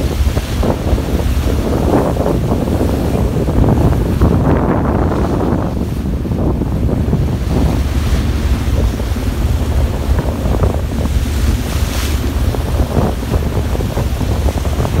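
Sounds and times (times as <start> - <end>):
wake water rushing: 0.0 - 15.0
wind buffeting microphone: 0.0 - 15.0.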